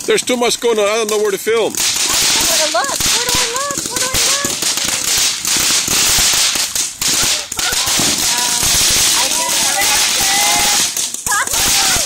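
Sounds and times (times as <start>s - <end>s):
ground fountain fireworks hissing: 0.0s - 12.0s.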